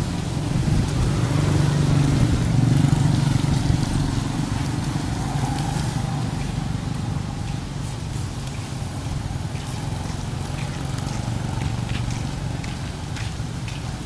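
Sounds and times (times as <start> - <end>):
small motorbike engine running: 0.0 - 13.9
traffic on wet street: 0.0 - 14.0.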